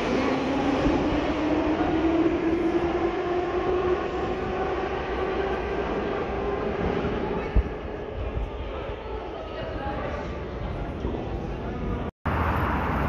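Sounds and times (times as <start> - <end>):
metro train rumble and motor whine: 0.0 - 10.8.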